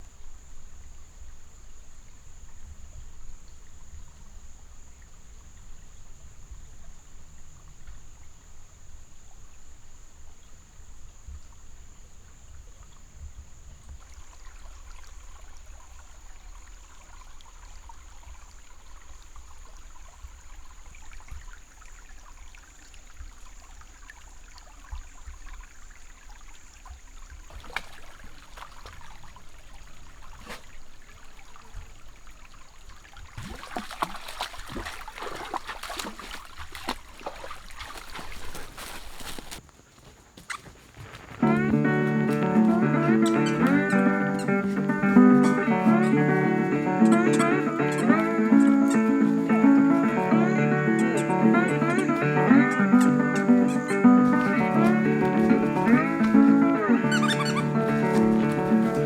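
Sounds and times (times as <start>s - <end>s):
water trickling: 0.0s - 39.6s, 41.2s - 59.0s.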